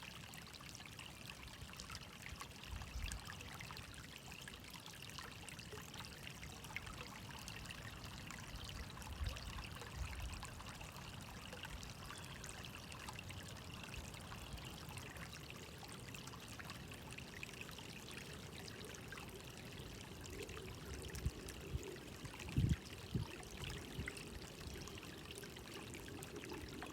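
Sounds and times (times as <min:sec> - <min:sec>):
water trickling and splashing: 0:00.0 - 0:26.9.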